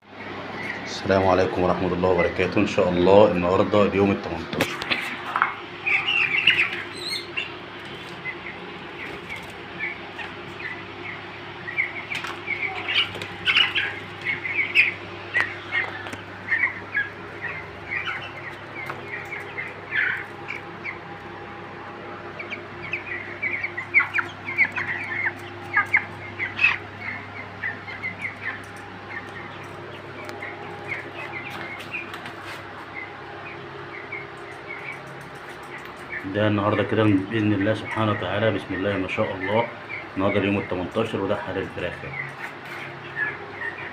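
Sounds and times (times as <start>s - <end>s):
chicks cheeping: 0.0s - 43.9s
steady low hum: 0.0s - 43.9s.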